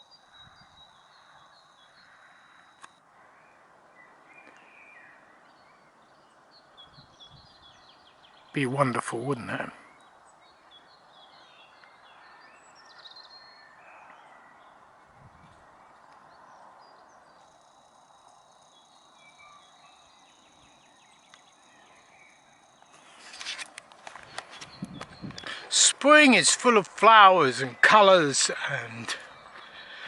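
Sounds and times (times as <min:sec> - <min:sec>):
faint bird chirps: 0:00.0 - 0:25.7
outdoor hush: 0:00.0 - 0:30.0.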